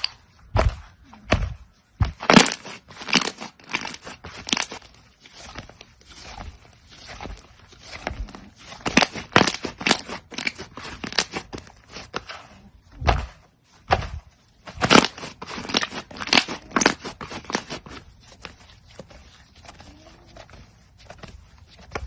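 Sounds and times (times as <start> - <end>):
crunchy slime crackling: 0.0 - 22.0.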